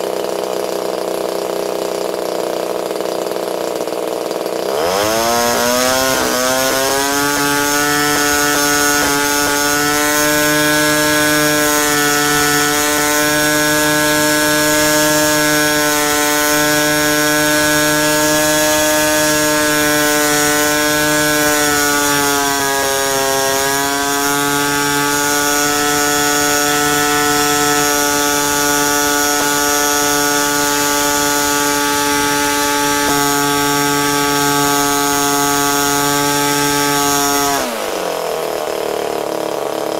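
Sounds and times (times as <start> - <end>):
model aircraft engine revving: 0.0 - 39.9.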